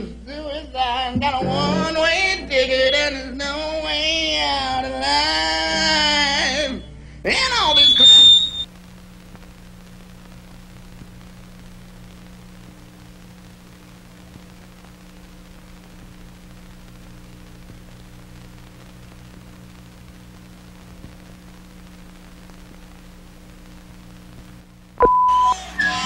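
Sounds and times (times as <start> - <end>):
film soundtrack hiss: 0.0 - 26.0
low electrical hum: 0.0 - 26.0.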